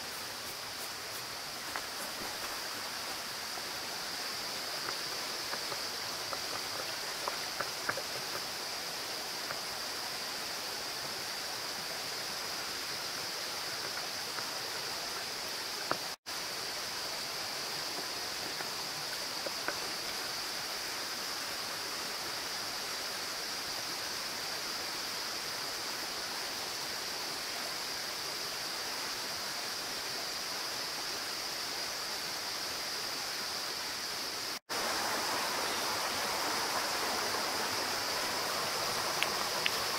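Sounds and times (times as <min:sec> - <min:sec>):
creek water over rocks: 0:00.0 - 0:39.9.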